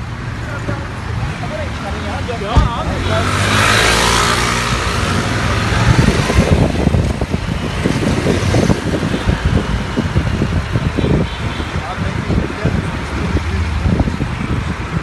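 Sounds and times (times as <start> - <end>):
motor scooters: 0.0 - 15.0
road traffic engines: 0.0 - 15.0
wind buffeting microphone: 2.3 - 15.0.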